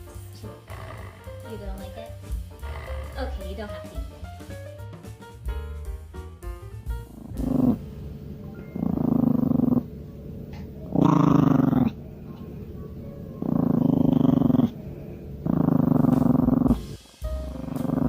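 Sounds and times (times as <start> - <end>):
pet low rumbling: 0.0 - 18.0.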